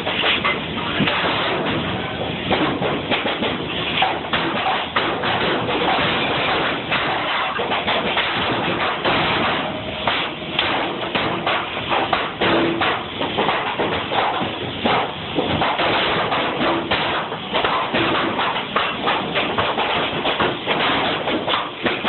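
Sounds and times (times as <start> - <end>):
noisy background: 0.0 - 22.0.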